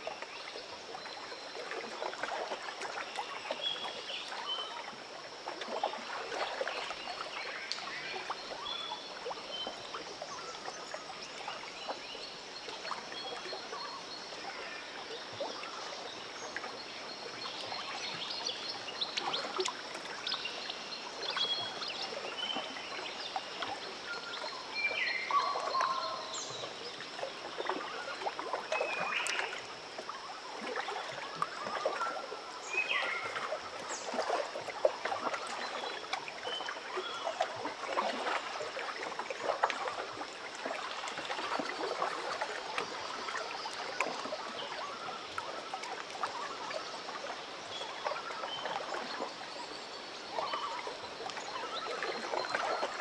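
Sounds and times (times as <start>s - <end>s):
lake water lapping at shore: 0.0s - 53.0s.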